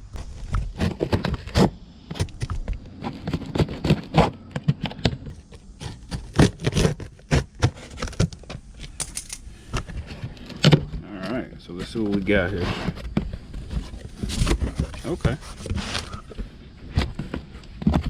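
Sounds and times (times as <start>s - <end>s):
cardboard box scraping and knocking: 0.0s - 8.6s, 9.8s - 18.0s.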